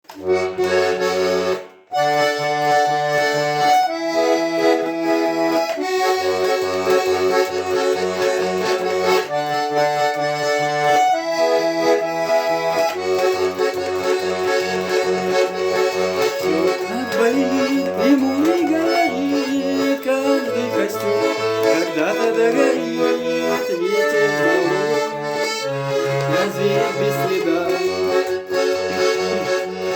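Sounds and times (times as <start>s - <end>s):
button accordion playing: 0.0s - 29.9s.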